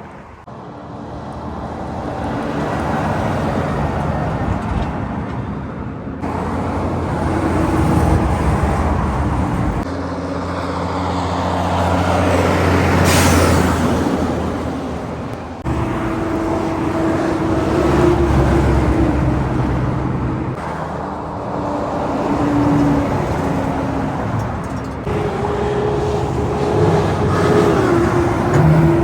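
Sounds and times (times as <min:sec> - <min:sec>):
highway traffic passing: 0:00.0 - 0:29.0.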